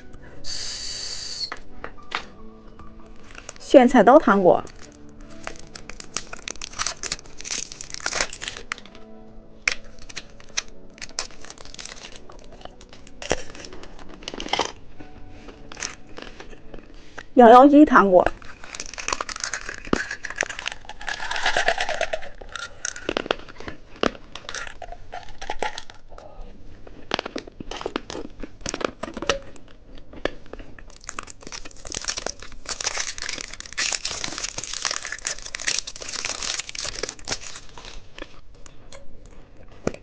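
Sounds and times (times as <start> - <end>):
plastic packaging crinkling: 3.1 - 17.4, 18.2 - 38.7.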